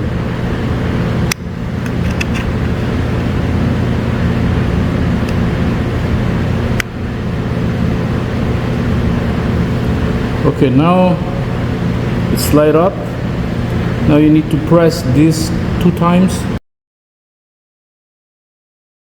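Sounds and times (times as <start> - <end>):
low mechanical hum: 0.0 - 16.6.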